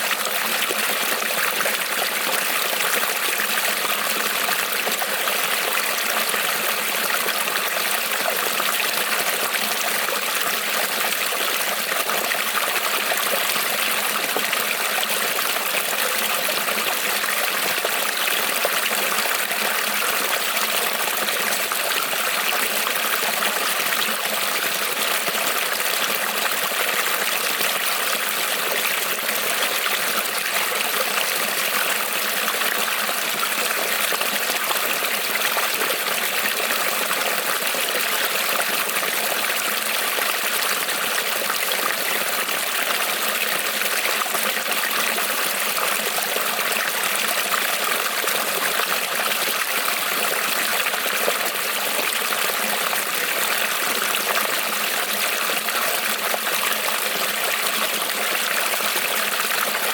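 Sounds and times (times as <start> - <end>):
creek water trickling over stones: 0.0 - 59.9.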